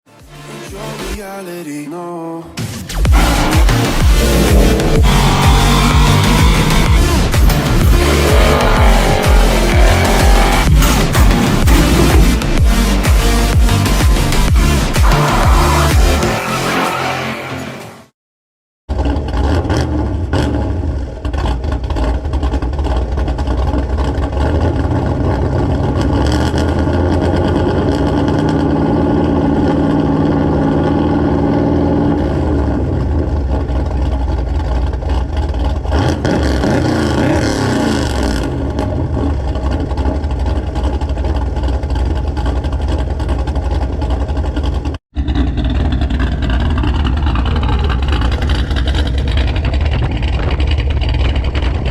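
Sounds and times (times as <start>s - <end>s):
engine exhaust revving: 2.6s - 17.8s, 18.9s - 51.9s.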